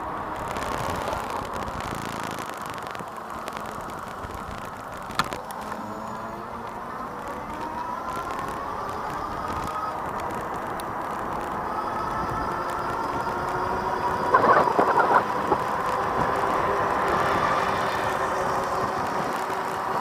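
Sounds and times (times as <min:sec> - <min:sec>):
motorized bike motor whine: 0:00.0 - 0:20.0
road and wind noise: 0:00.0 - 0:20.0.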